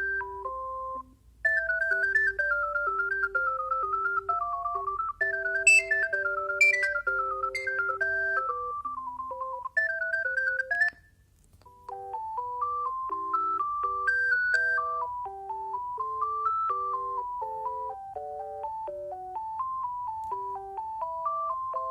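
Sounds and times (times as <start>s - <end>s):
polyphonic phone ringtone: 0.0s - 11.0s, 11.7s - 21.9s.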